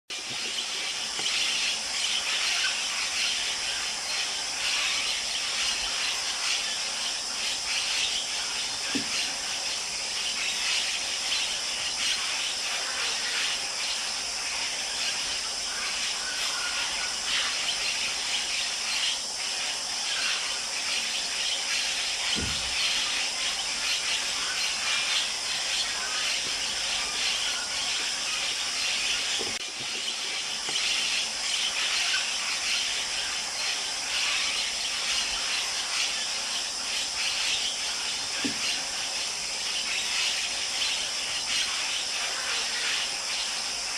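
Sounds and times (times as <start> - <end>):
steady hiss: 0.1 - 43.9
parrots squealing: 0.5 - 43.9.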